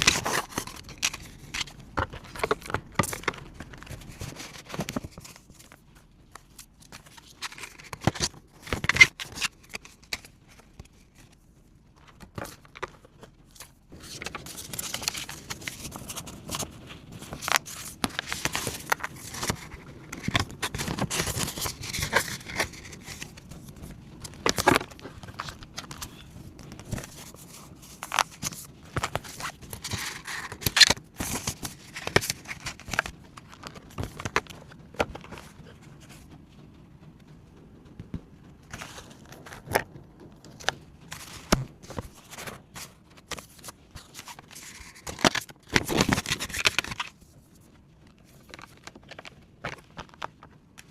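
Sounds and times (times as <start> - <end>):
paper rustling and crinkling: 0.0 - 36.4, 38.0 - 50.9.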